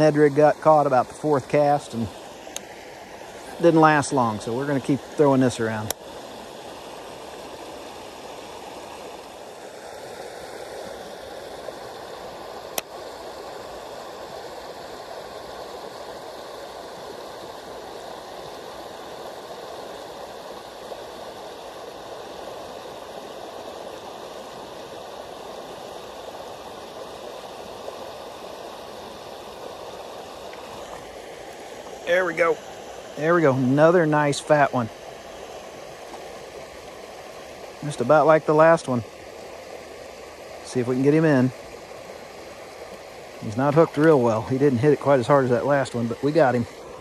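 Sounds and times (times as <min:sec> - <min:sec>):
creek water babbling: 0:00.0 - 0:47.0.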